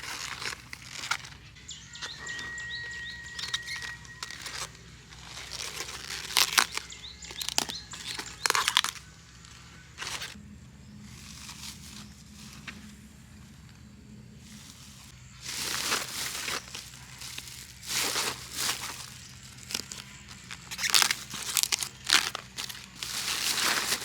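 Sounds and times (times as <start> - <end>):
rustling and crinkling: 0.0 - 10.4, 11.0 - 24.0
birds chirping: 0.0 - 24.0.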